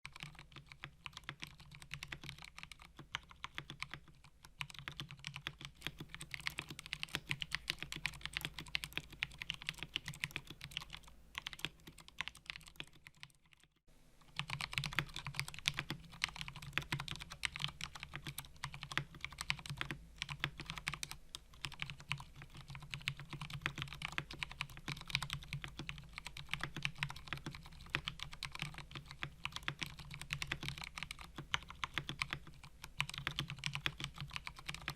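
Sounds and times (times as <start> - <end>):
typing on mechanical keyboard: 0.0 - 13.7, 14.3 - 34.9.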